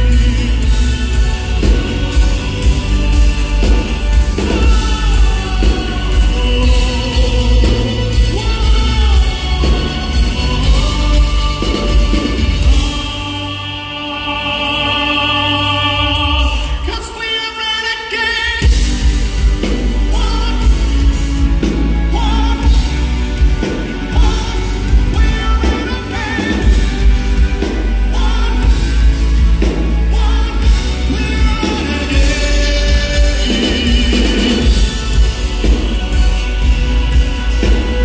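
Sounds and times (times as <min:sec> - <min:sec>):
male tenor singing: 0:00.0 - 0:38.0
rock band playing: 0:00.0 - 0:38.0.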